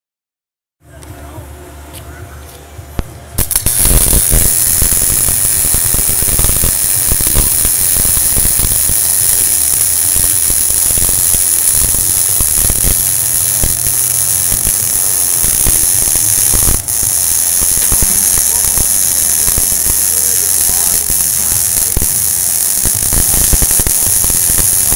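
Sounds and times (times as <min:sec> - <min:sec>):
arc welding crackling hiss: 0:03.0 - 0:24.9.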